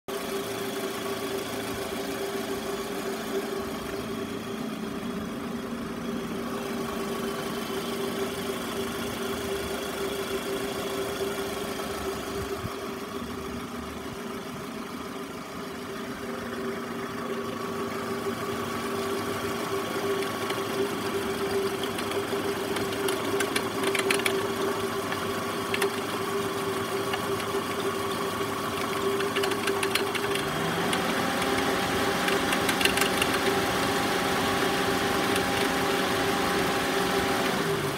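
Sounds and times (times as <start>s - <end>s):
car engine idling: 0.1s - 37.9s
alternator whine: 2.5s - 37.9s.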